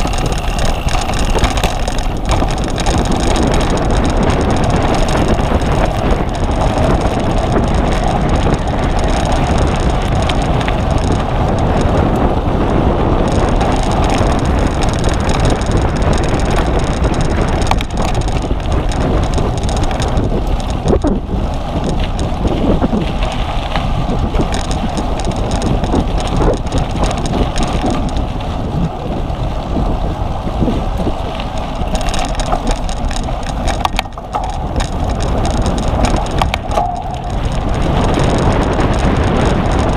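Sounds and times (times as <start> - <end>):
bike rumbling and rattling: 0.0 - 39.9
wind rushing over microphone: 0.0 - 39.9.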